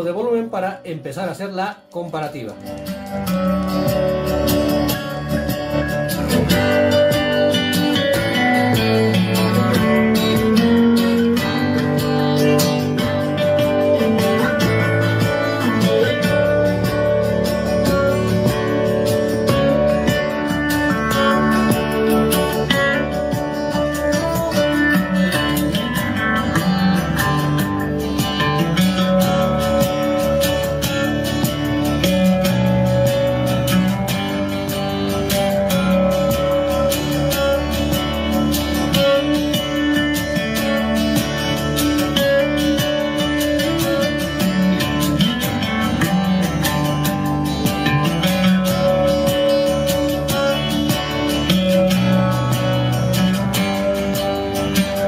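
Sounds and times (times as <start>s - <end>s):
guitar-led song over speaker: 0.0s - 55.0s.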